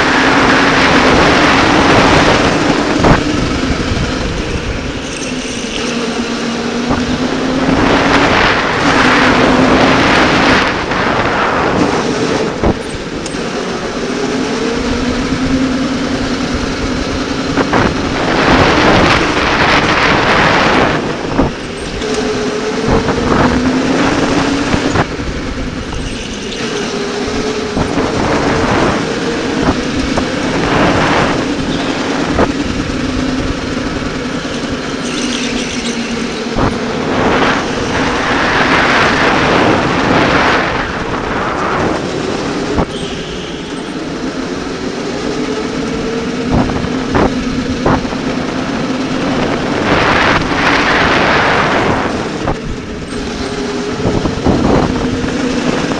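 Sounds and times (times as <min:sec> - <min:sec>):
electric go-kart motor whining: 0:00.0 - 0:55.9
rushing noise: 0:00.0 - 0:55.9.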